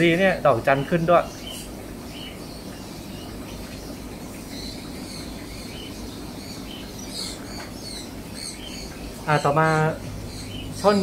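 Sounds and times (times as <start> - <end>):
aquarium pumps humming: 0.0 - 11.0.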